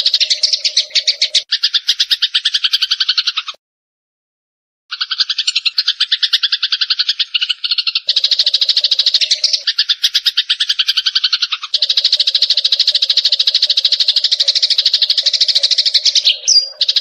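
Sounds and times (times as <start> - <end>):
sparrows chirping rapidly: 0.0 - 3.6, 4.9 - 17.0.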